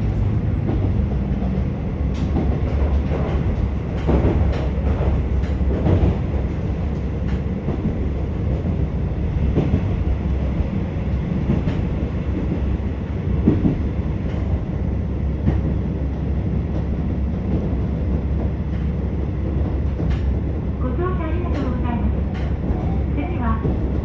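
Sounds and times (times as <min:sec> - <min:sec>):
train engine and wheels rumbling: 0:00.0 - 0:24.0.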